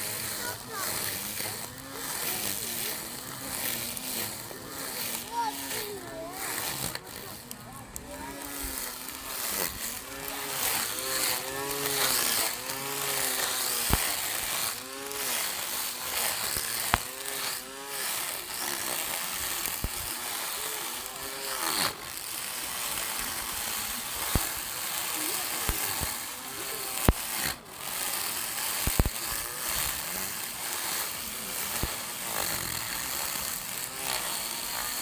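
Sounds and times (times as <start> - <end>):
electric lawn mower motor: 0.0 - 35.0
hiss of grass cutting: 0.0 - 35.0.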